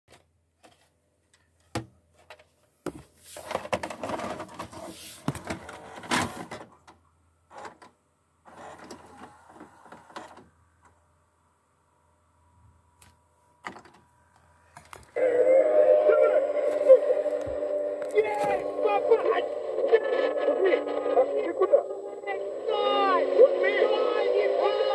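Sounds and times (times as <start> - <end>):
faint steady whine: 0.1 - 24.9
tape playback sound: 0.1 - 24.9.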